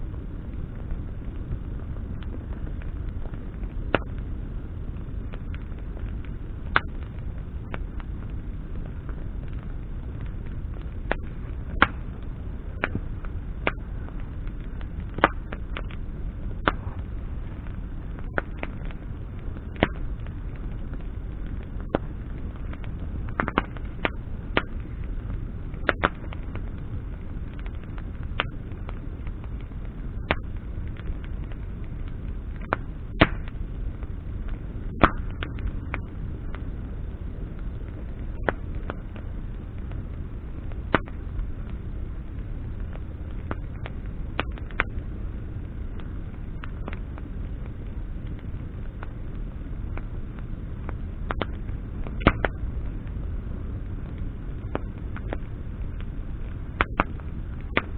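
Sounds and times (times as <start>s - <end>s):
campfire crackles and pops: 0.0s - 57.9s
low rumble of fire: 0.0s - 57.9s.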